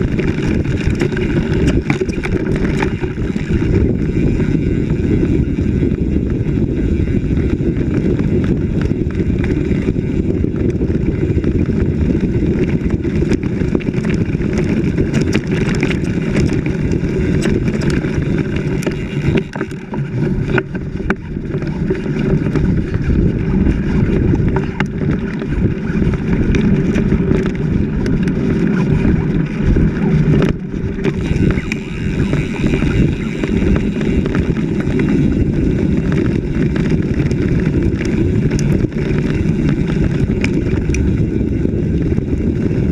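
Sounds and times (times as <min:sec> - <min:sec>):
off-road vehicle engine running: 0:00.0 - 0:42.9
wind buffeting microphone: 0:00.0 - 0:42.9.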